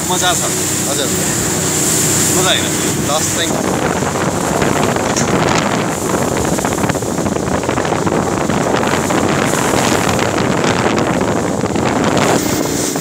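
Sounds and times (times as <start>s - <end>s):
boat engine: 0.0s - 13.0s
water rushing past hull: 0.0s - 13.0s
wind rushing over microphone: 0.0s - 13.0s.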